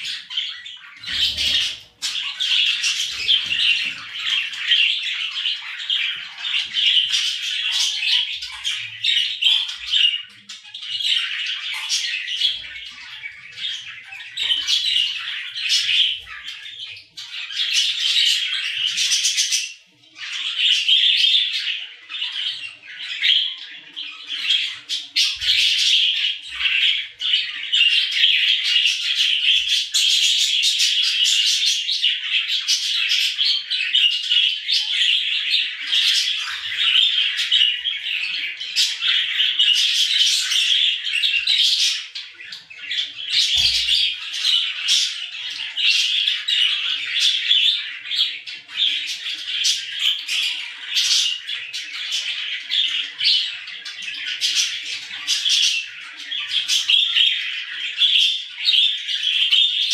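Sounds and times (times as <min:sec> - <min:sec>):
budgies chirping and warbling: 0:00.0 - 0:59.9.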